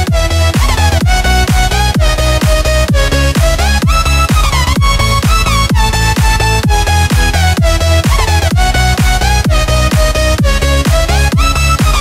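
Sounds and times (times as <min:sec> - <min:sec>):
four-on-the-floor kick drum: 0:00.0 - 0:12.0
gliding synth lead notes: 0:00.0 - 0:12.0.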